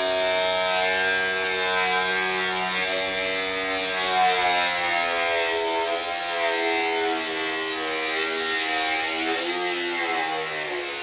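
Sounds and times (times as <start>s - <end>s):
angle grinder cutting metal: 0.0s - 11.0s.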